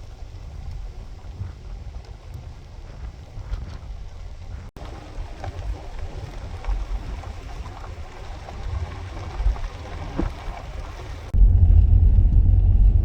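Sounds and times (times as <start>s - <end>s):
deep muffled rumble: 0.0s - 13.0s
low rumble: 0.0s - 13.0s
tyre road and wind noise: 0.0s - 13.0s.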